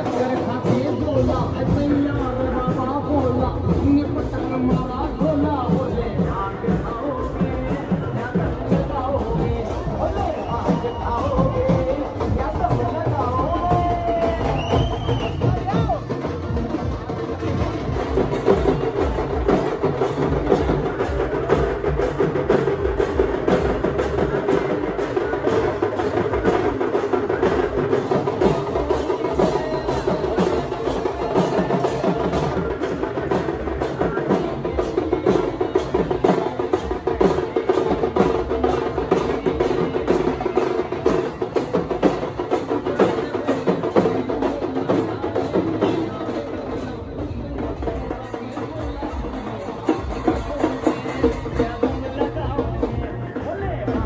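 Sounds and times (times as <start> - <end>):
drums playing: 0.0 - 54.0.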